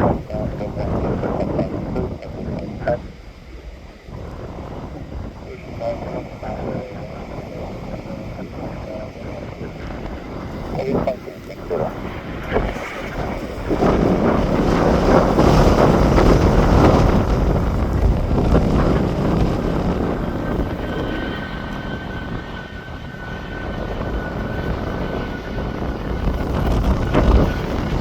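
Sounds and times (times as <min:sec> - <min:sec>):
aircraft engines roaring: 0:00.0 - 0:28.0
high engine whine: 0:00.0 - 0:28.0
wind buffeting microphone: 0:00.0 - 0:28.0.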